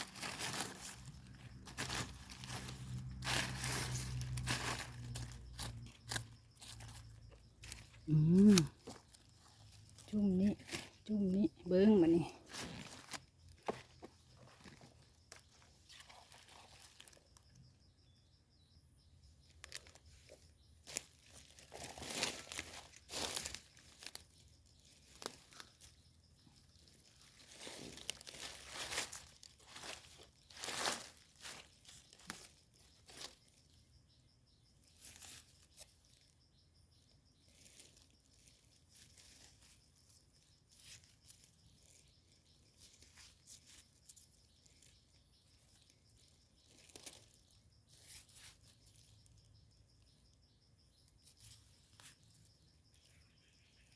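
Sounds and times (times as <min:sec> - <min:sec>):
leaf litter rustling and crackling: 0:00.0 - 0:17.4, 0:19.6 - 0:33.8, 0:34.8 - 0:36.3, 0:37.4 - 0:49.3.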